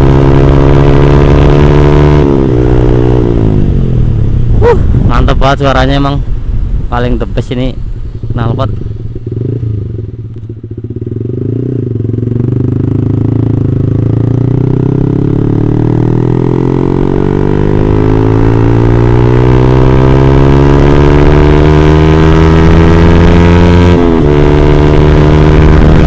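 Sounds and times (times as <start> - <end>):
motorcycle engine accelerating: 0.0 - 5.2, 8.3 - 26.0.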